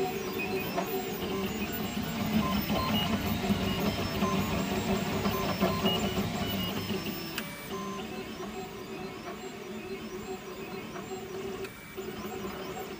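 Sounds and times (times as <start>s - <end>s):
printer stepper motors whining: 0.0s - 12.9s.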